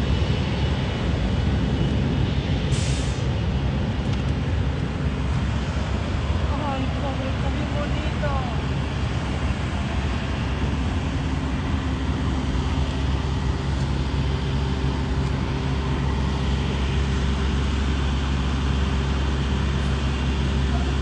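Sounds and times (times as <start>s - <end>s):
vehicle engine and road hum: 3.3s - 21.0s.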